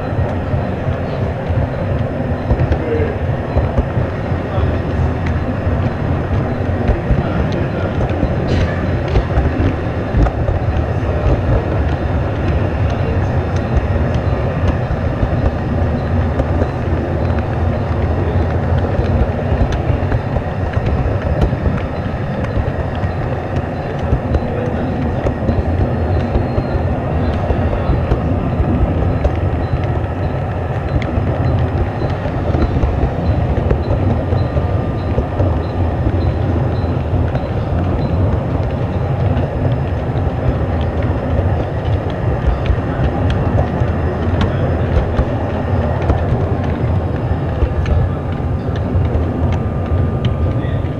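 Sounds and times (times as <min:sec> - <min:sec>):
model train wheels rumbling: 0:00.0 - 0:50.9.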